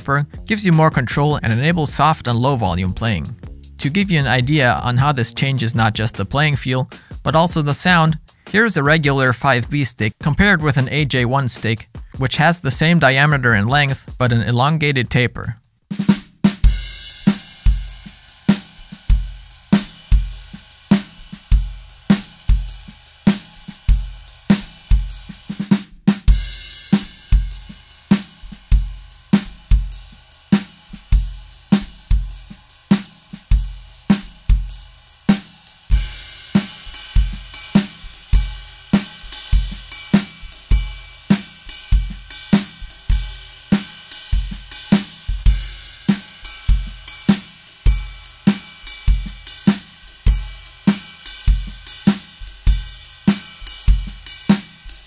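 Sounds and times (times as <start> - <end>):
drum kit groove: 0.0 - 55.0.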